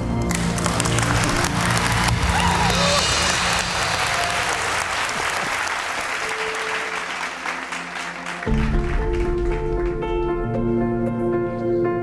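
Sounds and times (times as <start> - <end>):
guests applauding: 0.0 - 10.1
music: 0.0 - 12.0.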